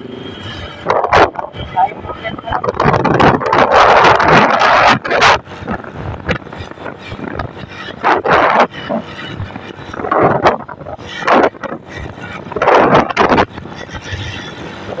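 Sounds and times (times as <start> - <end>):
road and engine noise: 0.0 - 15.0
wind buffeting microphone: 0.0 - 15.0.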